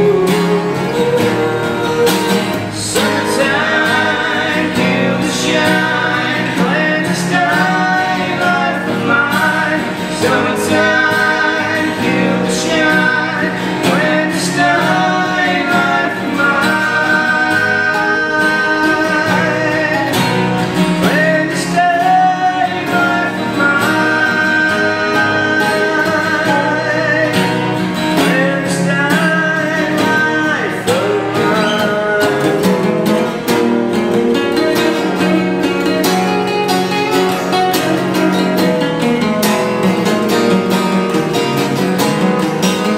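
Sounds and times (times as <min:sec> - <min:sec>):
person singing: 0:00.0 - 0:39.2
full band playing: 0:00.0 - 0:42.9
strummed guitar: 0:00.0 - 0:42.9.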